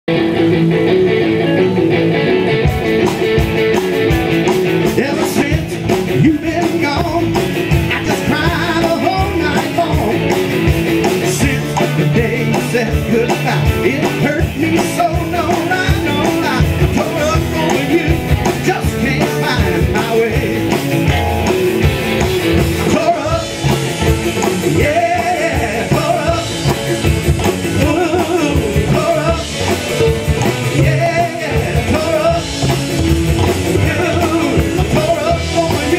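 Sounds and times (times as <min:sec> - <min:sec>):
live rockabilly band playing: 0:00.1 - 0:35.9
man singing lead: 0:04.8 - 0:21.2, 0:22.6 - 0:35.9.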